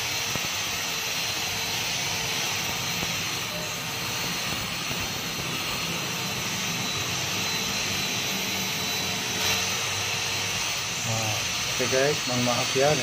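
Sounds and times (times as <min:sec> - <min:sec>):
angle grinder scrubbing stone: 0:00.0 - 0:13.0.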